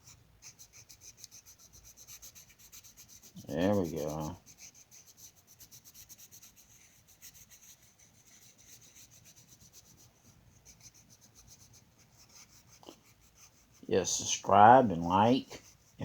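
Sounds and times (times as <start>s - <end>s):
coloring tool rubbing on paper: 0.0s - 16.0s.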